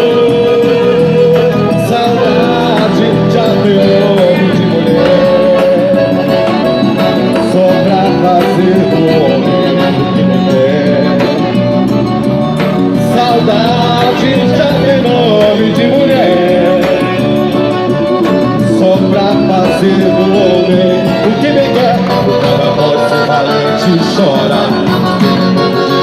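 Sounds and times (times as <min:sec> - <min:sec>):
folk dance music with singing: 0:00.0 - 0:26.0.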